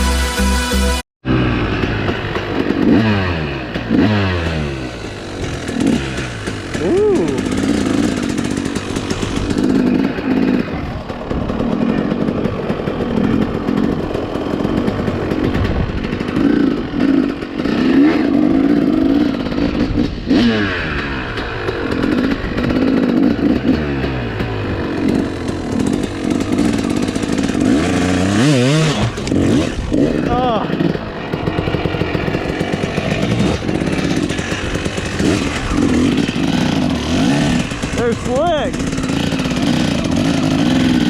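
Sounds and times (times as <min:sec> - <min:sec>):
dirt bike engine revving: 0:01.2 - 0:41.0.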